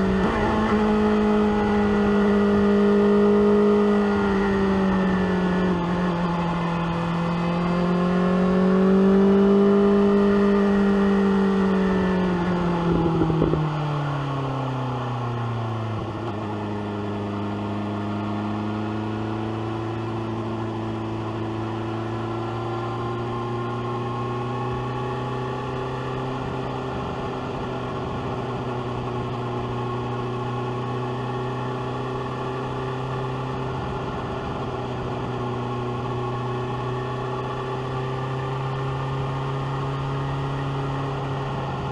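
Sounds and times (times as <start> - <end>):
motorcycle engine revving: 0.0 - 14.2, 15.9 - 41.9.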